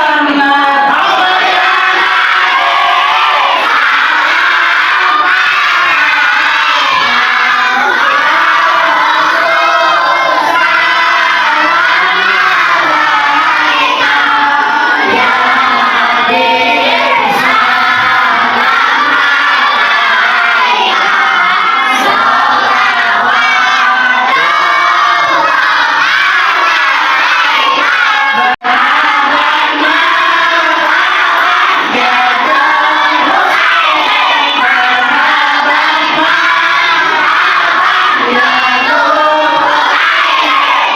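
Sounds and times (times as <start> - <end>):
children singing in unison: 0.0 - 40.9.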